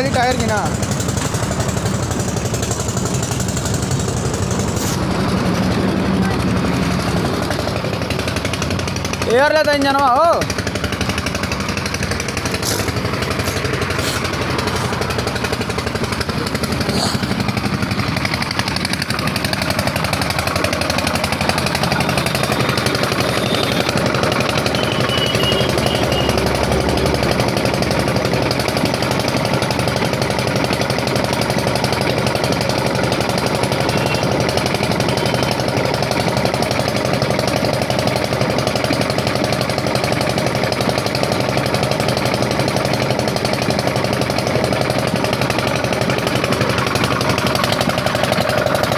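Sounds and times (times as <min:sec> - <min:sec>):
air compressor building pressure: 0:00.0 - 0:48.9
truck diesel engine idling: 0:00.0 - 0:48.9.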